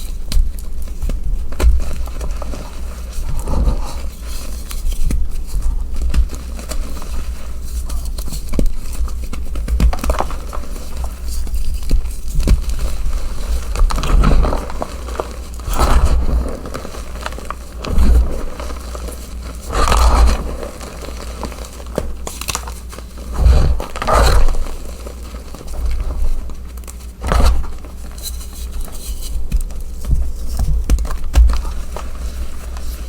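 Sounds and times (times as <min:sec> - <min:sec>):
chalk crunching and crumbling: 0:00.1 - 0:33.0.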